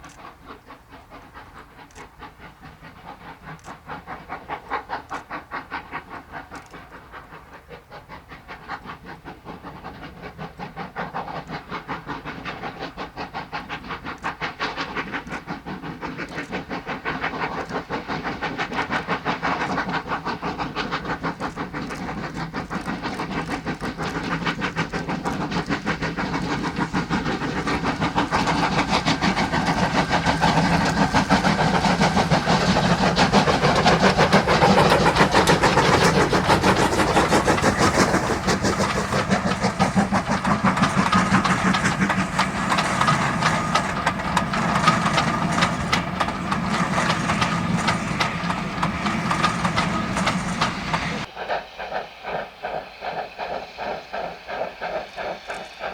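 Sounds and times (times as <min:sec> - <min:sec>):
steam locomotive exhaust beats: 0:00.0 - 0:55.9.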